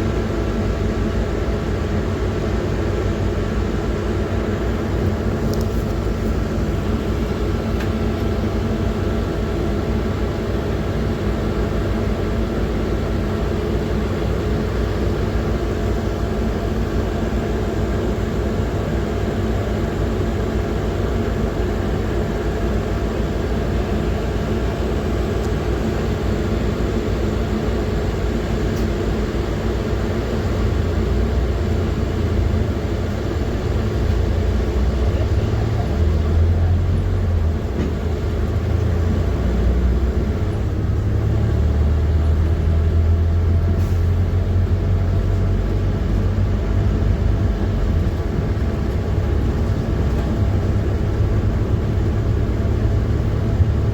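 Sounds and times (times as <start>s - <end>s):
bus engine and road rumble: 0.0s - 53.9s.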